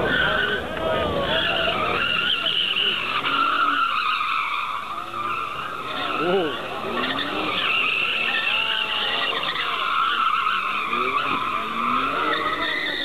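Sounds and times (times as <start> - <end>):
car tyres squealing: 0.0 - 13.0.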